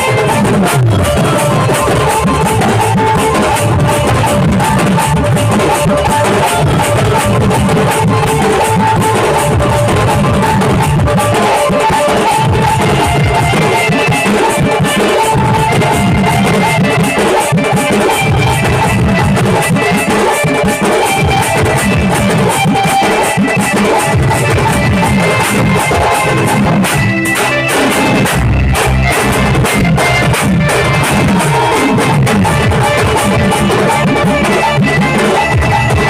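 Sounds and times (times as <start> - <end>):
drum ensemble beaten with sticks: 0.0 - 36.0.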